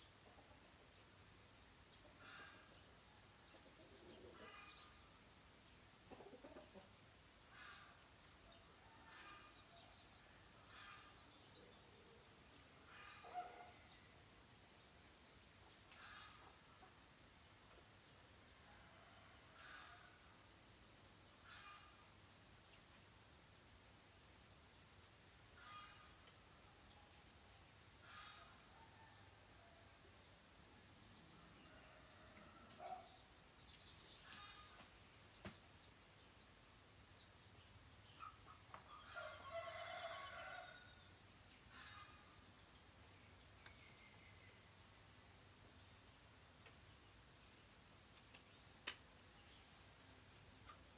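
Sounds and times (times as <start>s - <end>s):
insects chirping: 0.0s - 50.9s.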